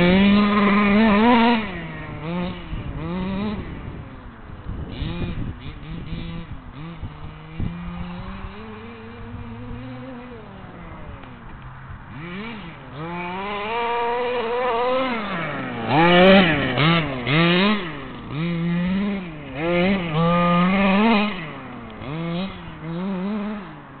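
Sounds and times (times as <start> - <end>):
rc truck engine revving: 0.0 - 24.0.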